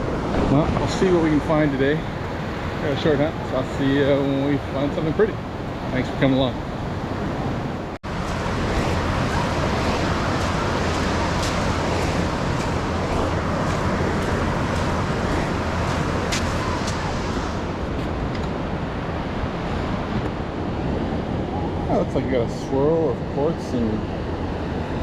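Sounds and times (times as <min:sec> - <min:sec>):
ocean surf: 0:00.0 - 0:25.0
wind buffeting microphone: 0:00.0 - 0:25.0.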